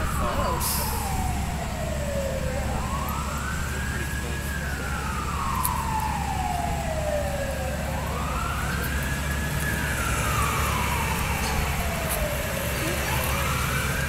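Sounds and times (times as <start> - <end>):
emergency vehicle siren wailing: 0.0 - 14.0.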